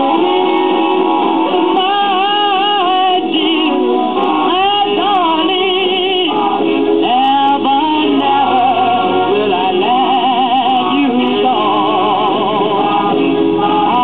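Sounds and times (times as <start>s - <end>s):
vocal record playing on phonograph: 0.0s - 14.0s.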